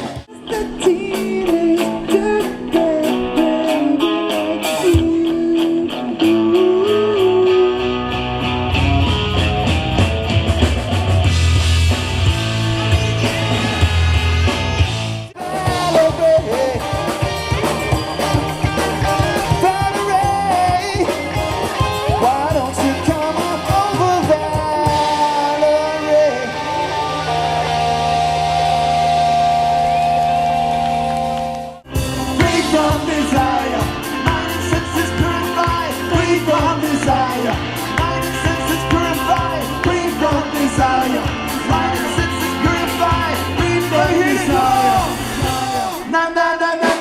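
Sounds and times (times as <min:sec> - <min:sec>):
drums with steady beat: 0:00.0 - 0:07.4, 0:08.4 - 0:25.6, 0:31.8 - 0:47.0
person singing: 0:00.0 - 0:08.3, 0:15.4 - 0:31.5, 0:32.1 - 0:47.0
bass guitar: 0:00.0 - 0:47.0
electric guitar: 0:00.0 - 0:47.0.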